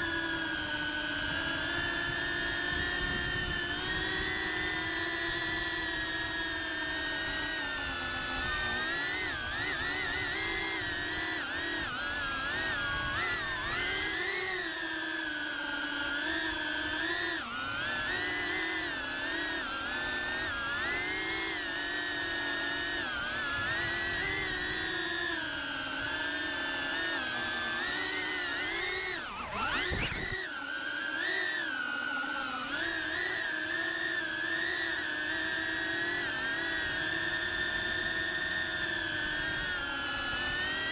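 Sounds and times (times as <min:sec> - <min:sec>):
drone motors whining: 0:00.0 - 0:40.9.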